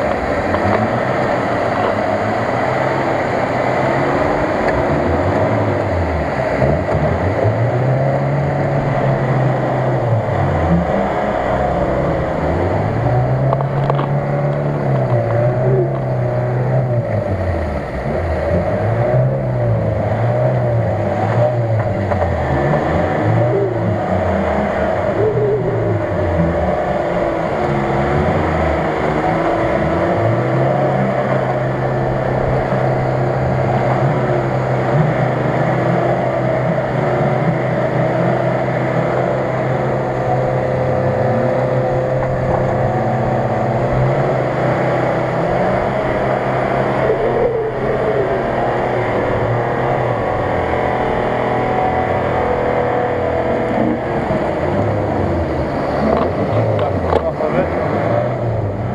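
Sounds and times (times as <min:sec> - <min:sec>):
vehicle engine revving: 0:00.0 - 0:58.9.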